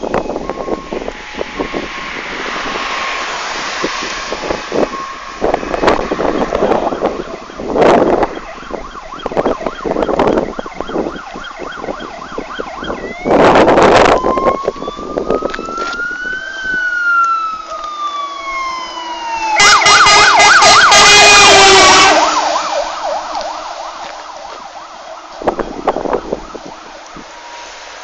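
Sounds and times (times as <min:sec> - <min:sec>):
fire engine siren wailing and yelping: 0:00.0 - 0:28.0.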